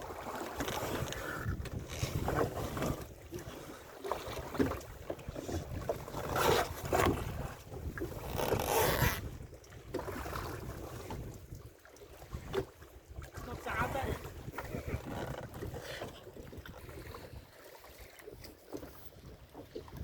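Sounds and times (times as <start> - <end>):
wind on microphone: 0.0 - 3.7, 4.6 - 11.7, 12.3 - 17.6, 18.2 - 20.0
boat engine low rumble: 0.0 - 20.0.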